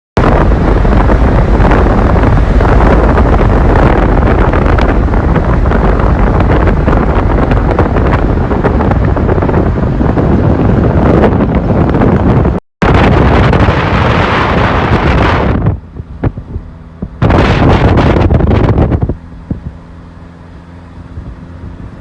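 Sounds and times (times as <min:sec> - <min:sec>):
strong wind on microphone: 0:00.2 - 0:22.0.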